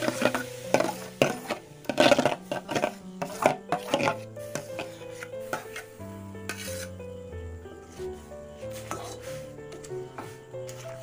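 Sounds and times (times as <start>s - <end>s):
spoon scraping a metal bowl: 0.0s - 7.0s, 7.9s - 11.0s
soft background music: 0.0s - 11.0s.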